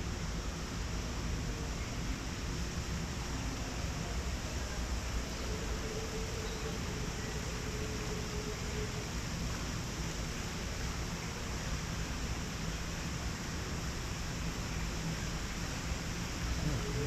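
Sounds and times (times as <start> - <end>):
faint steady tone: 0.0 - 17.0.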